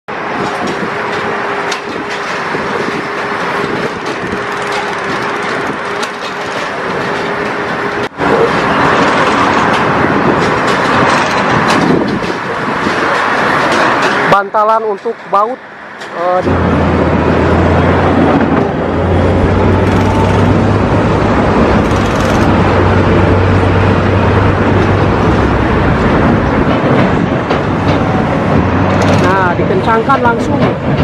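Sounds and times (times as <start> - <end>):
heavy machinery humming: 0.1 - 14.3, 15.7 - 31.0
loud dense machine noise: 0.1 - 31.0.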